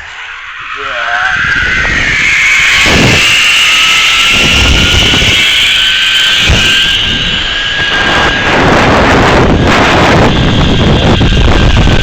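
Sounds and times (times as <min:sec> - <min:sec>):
wind buffeting microphone: 0:00.0 - 0:12.0
zipline pulleys whining on cable: 0:00.0 - 0:12.0.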